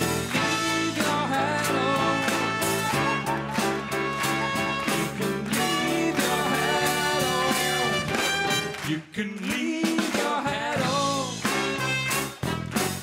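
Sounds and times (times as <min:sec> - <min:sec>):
trumpet: 0:00.0 - 0:09.1, 0:11.2 - 0:13.0
drums: 0:00.0 - 0:13.0
funk band playing: 0:00.0 - 0:13.0
saxophone: 0:00.1 - 0:08.9, 0:11.2 - 0:13.0.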